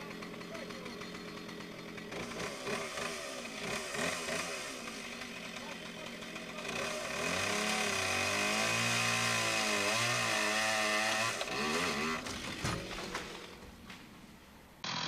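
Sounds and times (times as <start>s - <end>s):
chainsaw running at high revs: 0.0s - 12.4s.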